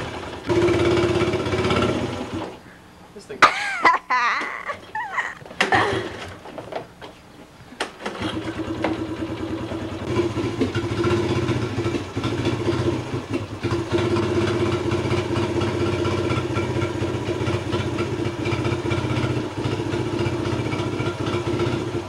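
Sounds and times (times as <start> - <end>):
engine idling: 0.0 - 3.2, 5.6 - 22.0.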